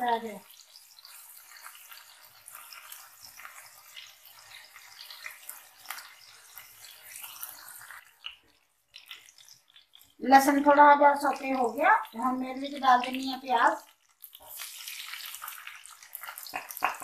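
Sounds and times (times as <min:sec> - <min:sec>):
garlic sizzling in hot oil: 0:00.0 - 0:17.0
spatula stirring in pan: 0:00.0 - 0:17.0.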